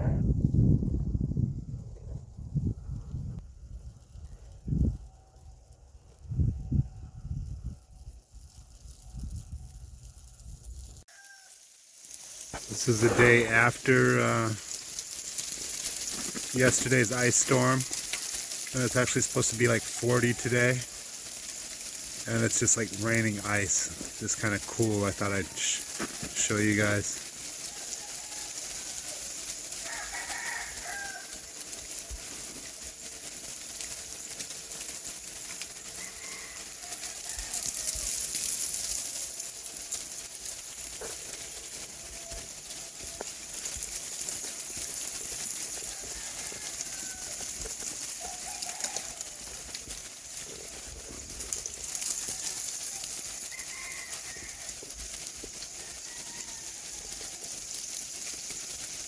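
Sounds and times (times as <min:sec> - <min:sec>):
ice bits pattering: 0:07.9 - 0:59.0.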